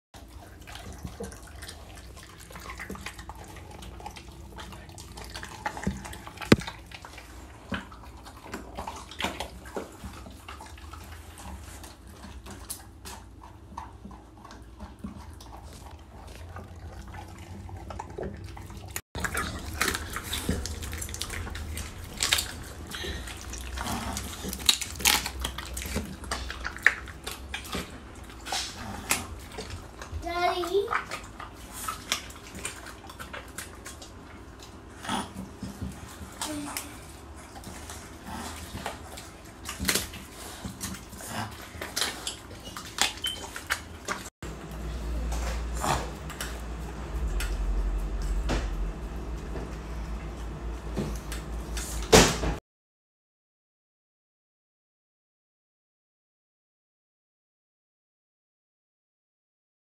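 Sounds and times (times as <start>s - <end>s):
dog chewing and crunching: 0.2s - 52.1s.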